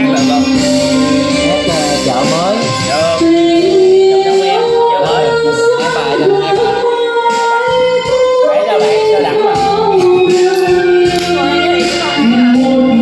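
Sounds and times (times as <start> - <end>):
backing track music: 0.0 - 13.0
woman singing into microphone: 0.0 - 13.0.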